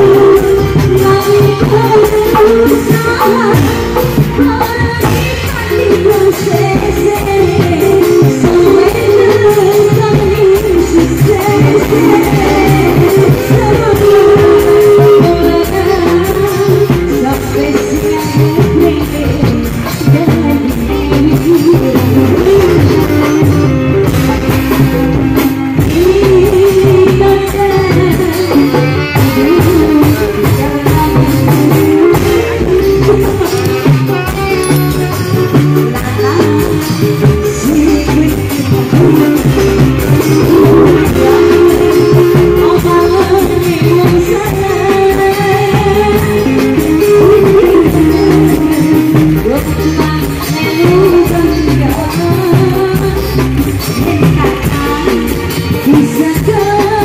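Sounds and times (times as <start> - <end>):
live band accompaniment: 0.0 - 57.0
woman singing into a microphone: 0.0 - 57.0.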